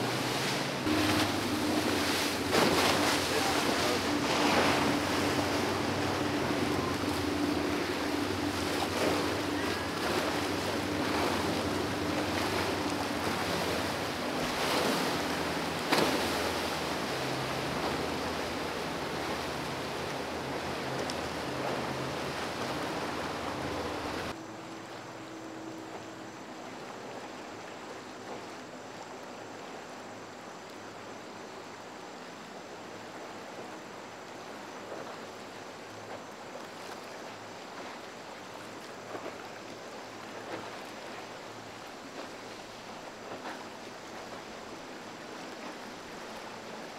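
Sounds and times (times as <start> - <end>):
choppy water rushing and splashing: 0.0 - 46.9
outboard boat motor running: 0.0 - 46.9.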